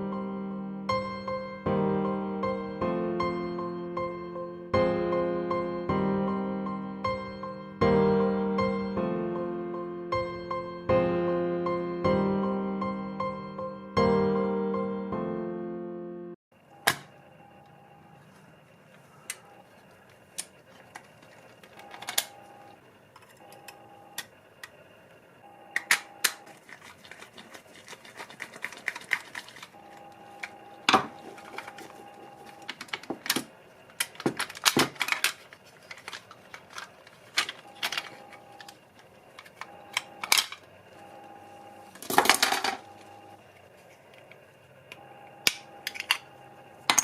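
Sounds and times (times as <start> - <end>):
faint hum: 0.0 - 47.0.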